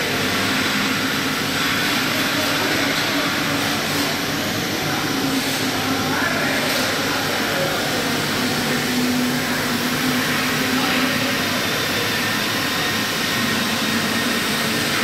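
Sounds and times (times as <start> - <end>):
cnc machine whirring: 0.0 - 15.0.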